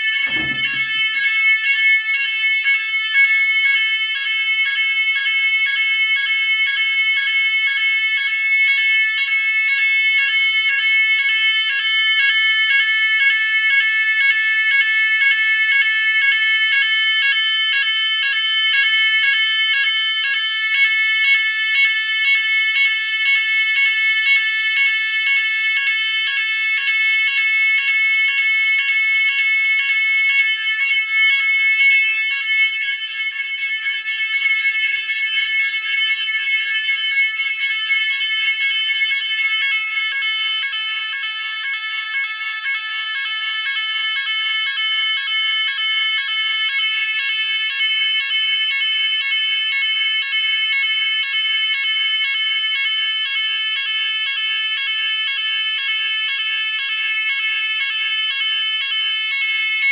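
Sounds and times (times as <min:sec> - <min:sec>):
pulsing fire alarm tone: 0:00.0 - 0:59.9.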